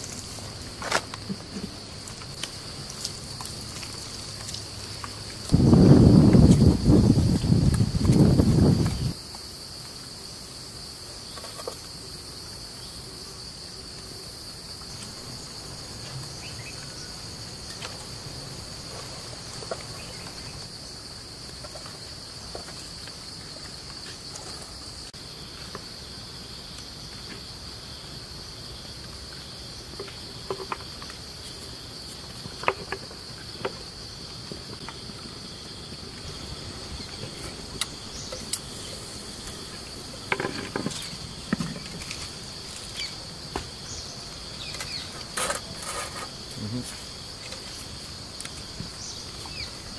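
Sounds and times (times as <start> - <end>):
insects chirring: 0.0 - 49.9.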